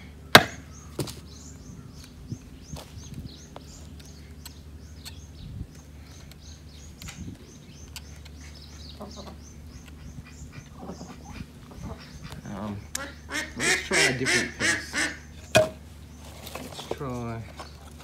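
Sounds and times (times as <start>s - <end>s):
ducks chirping and quacking: 0.0s - 17.9s
steady low hum: 0.0s - 18.0s.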